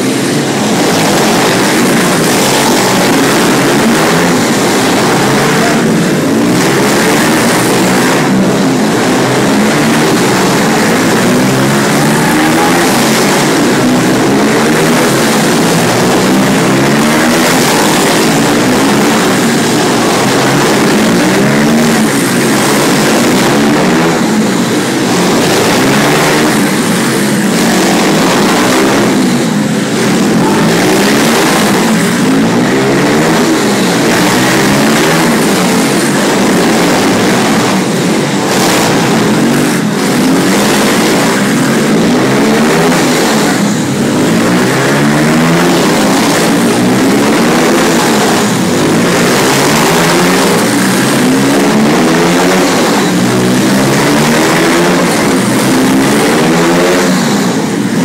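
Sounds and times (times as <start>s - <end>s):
motorbike engines revving: 0.0s - 58.0s.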